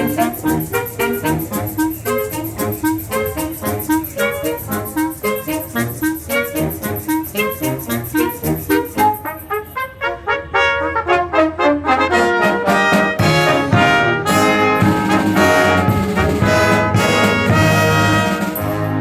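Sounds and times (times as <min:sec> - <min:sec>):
concert band with brass: 0:00.0 - 0:19.0.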